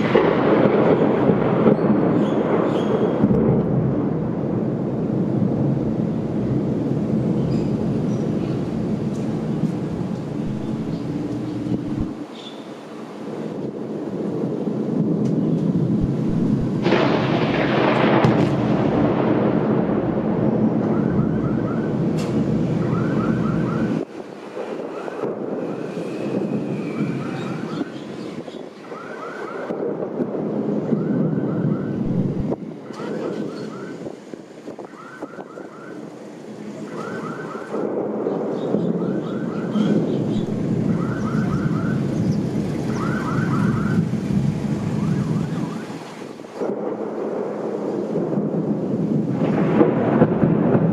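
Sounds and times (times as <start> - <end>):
thunder rumbling: 0.0 - 50.9.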